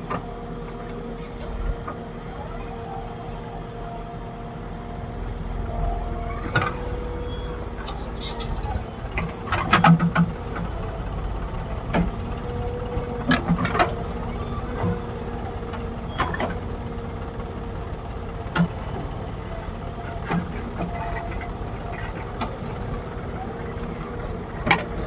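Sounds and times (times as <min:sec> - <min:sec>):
diesel machinery rumbling: 0:00.0 - 0:25.0.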